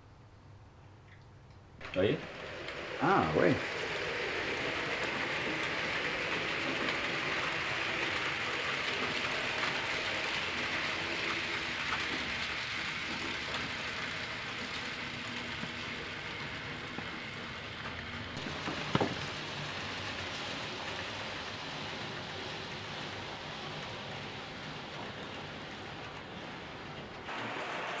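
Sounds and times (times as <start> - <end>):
model train wheels rattling: 1.8 - 28.0.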